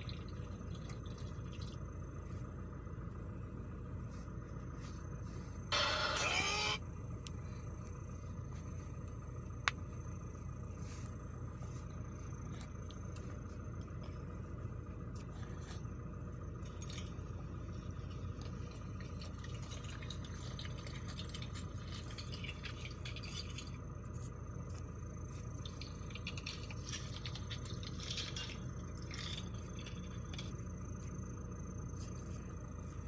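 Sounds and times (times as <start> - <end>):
low background hum and hiss: 0.0 - 33.0.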